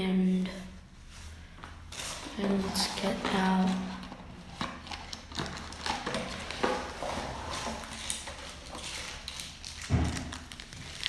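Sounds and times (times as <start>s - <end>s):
packaging rustling: 1.9s - 11.0s.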